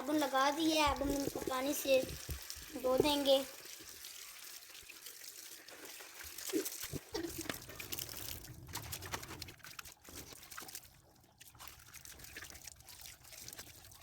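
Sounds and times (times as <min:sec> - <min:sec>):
water pouring and trickling: 0:00.0 - 0:14.0
small splashes and knocks: 0:00.7 - 0:14.0.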